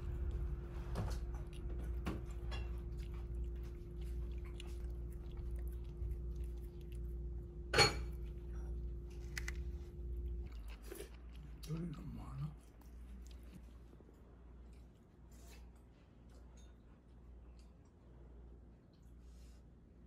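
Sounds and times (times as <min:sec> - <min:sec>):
cat chewing and licking: 0:00.0 - 0:18.2.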